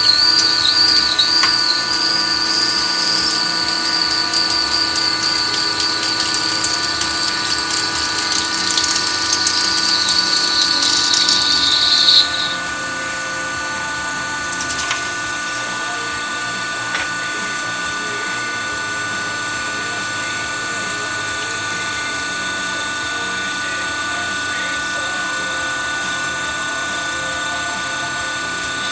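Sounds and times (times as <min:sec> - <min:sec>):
cutting tool squealing: 0:00.0 - 0:28.9
lathe motor and gear whine: 0:00.0 - 0:28.9.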